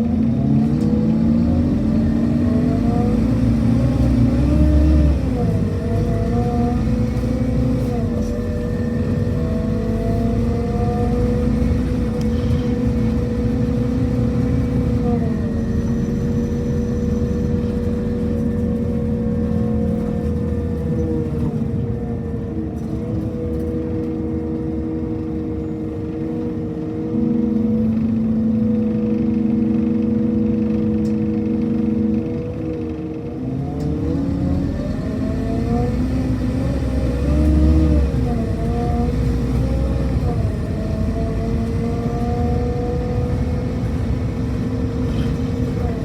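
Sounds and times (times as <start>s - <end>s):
bus engine whining: 0.0s - 46.0s.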